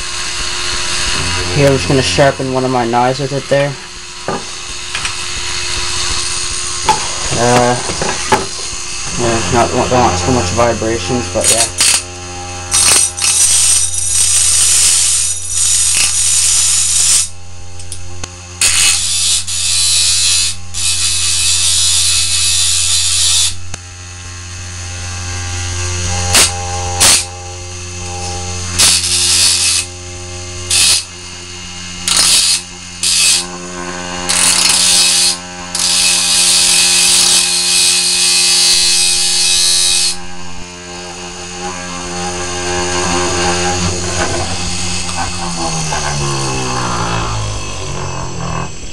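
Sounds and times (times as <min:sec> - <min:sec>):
knife blade grinding on disc: 0:00.0 - 0:23.7, 0:25.1 - 0:48.9
spindle motor humming: 0:00.0 - 0:48.9.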